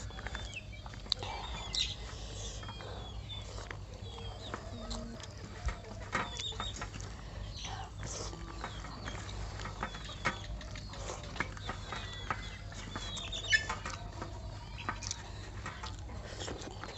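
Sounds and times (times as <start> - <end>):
birds chirping: 0.0 - 16.9
wet chewing clicks and smacks: 0.0 - 16.9.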